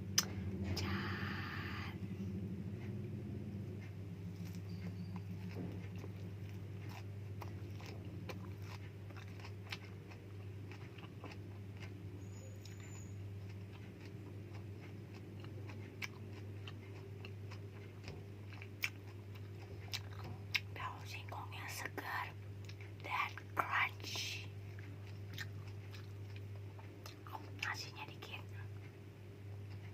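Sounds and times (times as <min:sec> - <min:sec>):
low electrical hum: 0:00.0 - 0:29.9
person chewing food: 0:03.8 - 0:29.0.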